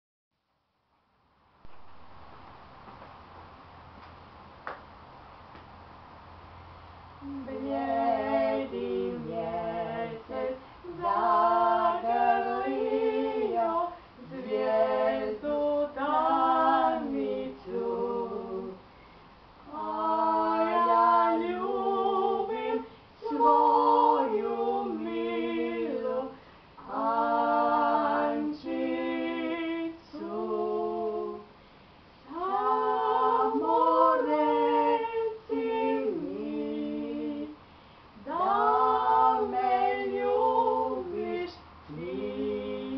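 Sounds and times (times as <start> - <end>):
two women singing unaccompanied: 7.2 - 18.9, 19.5 - 31.6, 32.2 - 42.9.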